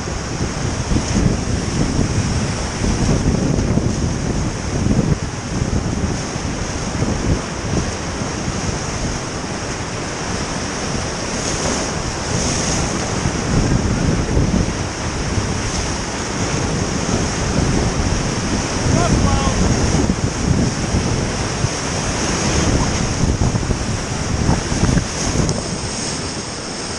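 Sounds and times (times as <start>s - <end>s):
waves splashing over boat: 0.0s - 26.9s
whitewater rapid roaring: 0.0s - 26.9s
wind buffeting microphone: 0.0s - 26.9s.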